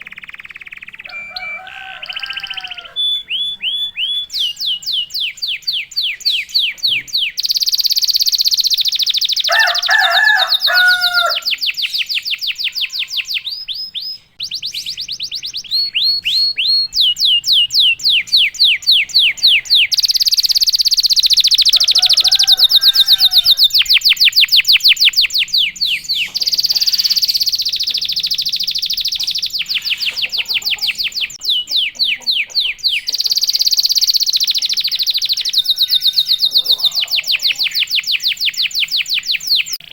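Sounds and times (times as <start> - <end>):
canary singing trills: 0.0 - 39.9
lower whistled bird phrases: 0.0 - 39.9.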